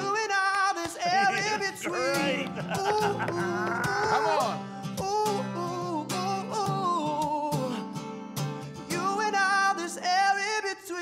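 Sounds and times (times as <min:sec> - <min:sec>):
man singing: 0:00.0 - 0:08.0, 0:08.9 - 0:11.0
acoustic guitar: 0:00.0 - 0:11.0.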